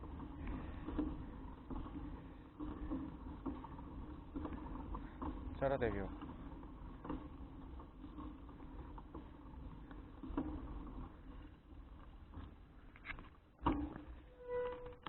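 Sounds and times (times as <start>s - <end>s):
bike rattling and knocking: 0.0s - 15.0s
wind and tyres rumbling on road: 0.0s - 15.0s.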